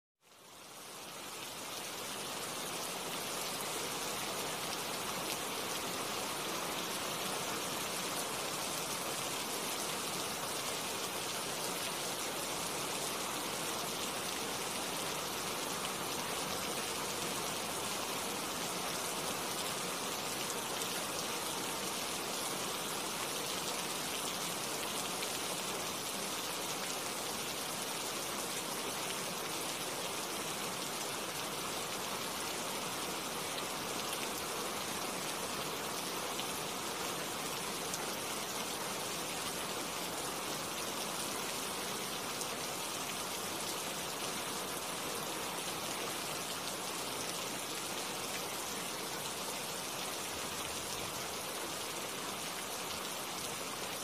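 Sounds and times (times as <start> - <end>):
rain falling on leaves: 0.2 - 54.0.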